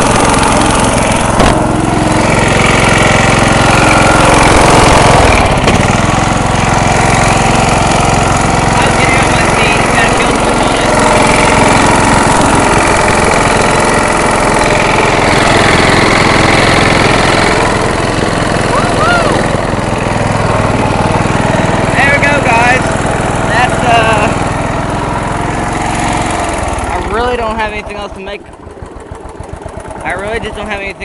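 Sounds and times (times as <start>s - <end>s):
riding mower engine running: 0.0s - 31.0s.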